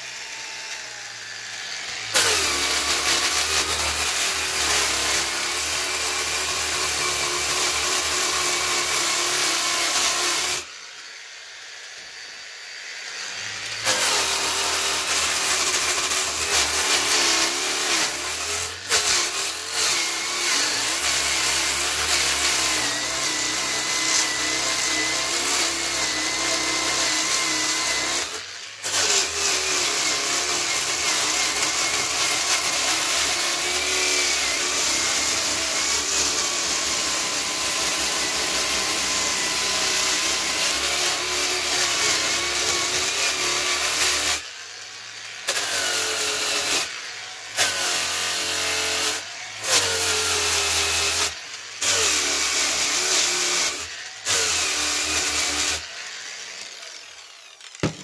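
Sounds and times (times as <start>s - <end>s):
power sander motor: 0.0s - 58.0s.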